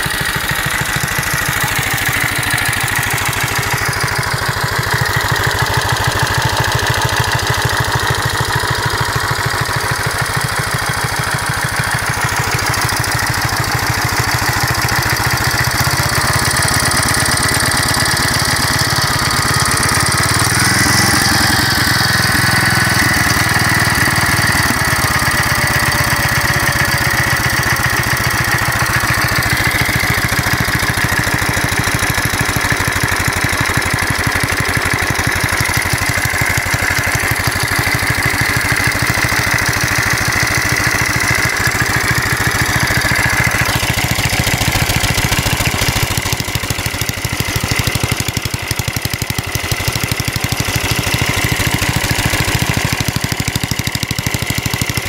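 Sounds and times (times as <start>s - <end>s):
stationary engine running: 0.0s - 55.0s.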